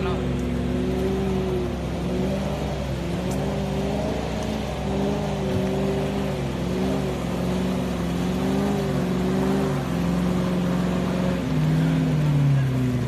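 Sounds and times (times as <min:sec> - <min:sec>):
engine revving under load: 0:00.0 - 0:13.0.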